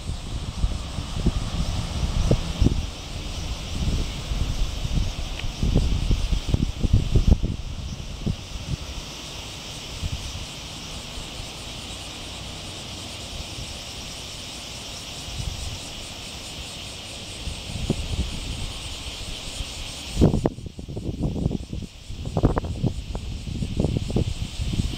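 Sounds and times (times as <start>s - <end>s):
insects chorus: 0.0s - 24.9s
wind rumble on microphone: 0.0s - 24.9s.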